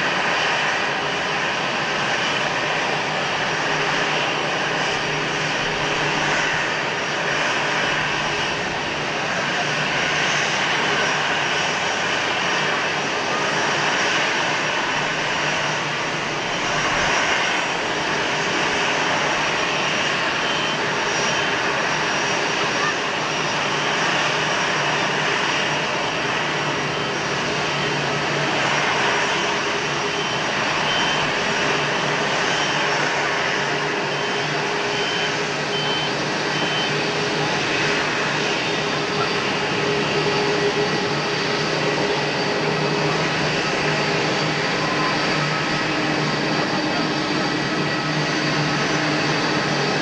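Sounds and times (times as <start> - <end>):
jet engines running steadily: 0.0 - 50.0.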